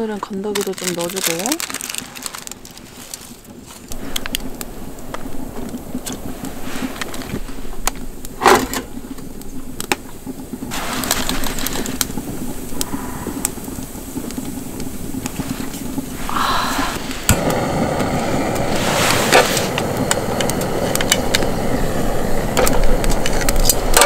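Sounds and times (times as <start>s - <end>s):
wide hiss: 0.0s - 24.0s
wood fire crackling: 0.0s - 24.0s
low hum: 3.9s - 24.0s.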